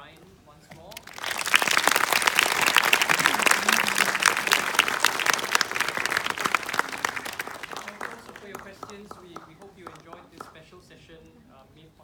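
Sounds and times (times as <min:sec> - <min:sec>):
audience applauding: 0:00.8 - 0:10.6.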